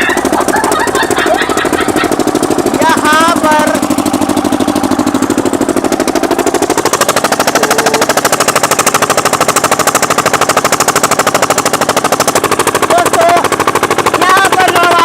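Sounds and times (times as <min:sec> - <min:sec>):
diesel engine exhaust bangs: 0:00.0 - 0:15.0.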